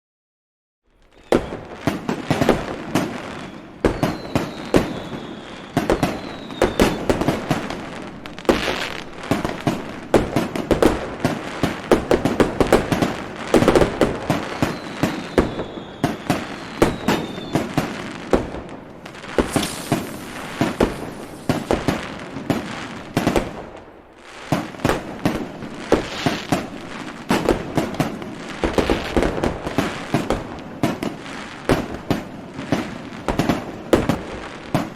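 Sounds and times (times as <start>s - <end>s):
fireworks bangs and crackling: 0.9s - 34.9s
high falling firework whistles: 1.0s - 10.9s, 11.5s - 23.7s, 24.5s - 34.9s.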